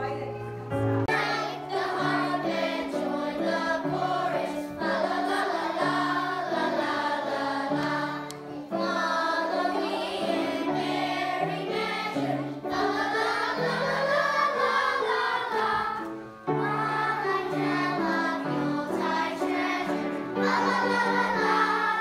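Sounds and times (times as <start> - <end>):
children's choir singing: 1.0 - 22.0.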